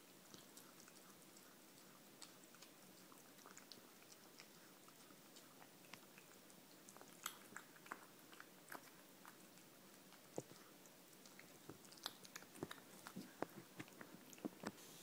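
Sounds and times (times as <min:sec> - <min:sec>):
cat chewing and smacking: 0:00.0 - 0:14.9.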